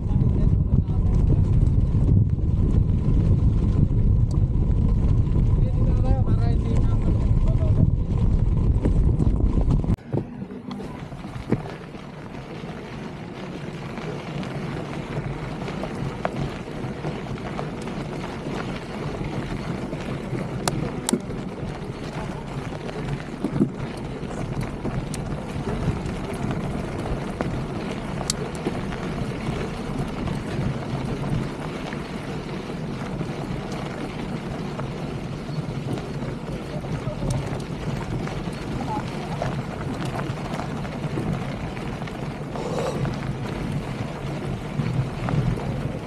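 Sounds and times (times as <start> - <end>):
bike tyres rolling over gravel: 0.0 - 46.0
wind buffeting microphone: 0.0 - 46.0.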